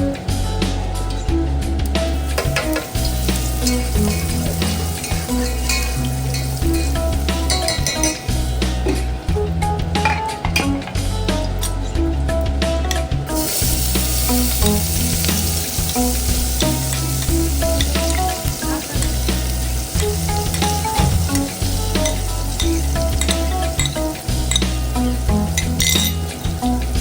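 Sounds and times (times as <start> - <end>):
stirring clicks: 1.0 - 27.0
food sizzling in hot oil: 2.0 - 11.9, 12.8 - 27.0.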